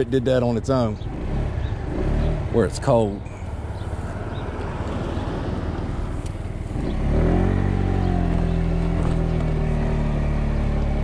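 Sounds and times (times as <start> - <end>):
scooter engine revving: 1.0 - 2.6, 3.2 - 11.0.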